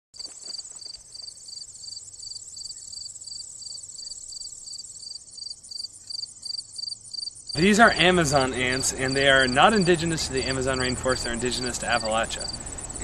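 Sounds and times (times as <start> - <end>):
insects trilling: 0.2 - 13.0
lower insect chirp: 0.2 - 13.0.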